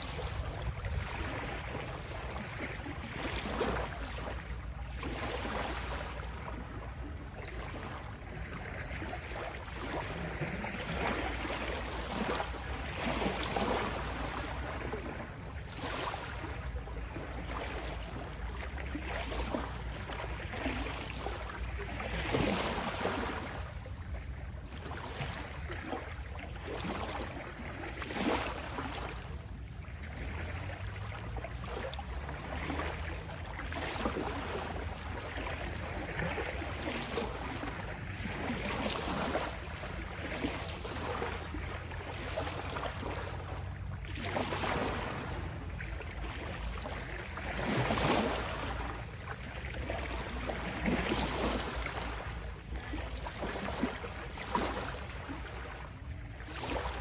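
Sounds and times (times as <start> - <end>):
small waves lapping at shore: 0.0 - 57.0.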